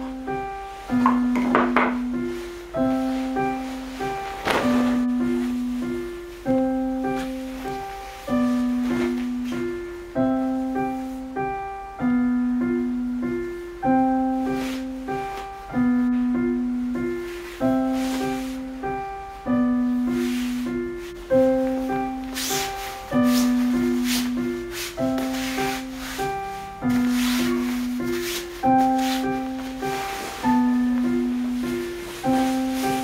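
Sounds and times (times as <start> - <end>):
calm piano music: 0.0 - 33.0.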